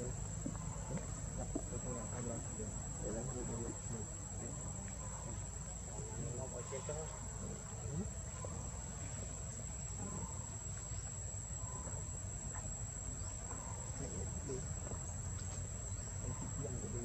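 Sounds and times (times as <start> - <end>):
insects buzzing: 0.0 - 17.0
low outdoor rumble: 0.0 - 17.0.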